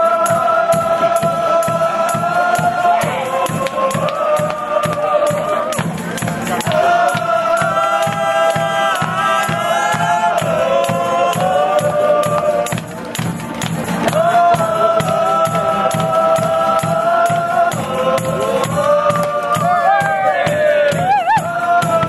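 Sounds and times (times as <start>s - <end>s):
acoustic guitars: 0.0s - 22.0s
men's choir singing: 0.0s - 22.0s
percussion beat: 0.0s - 22.0s.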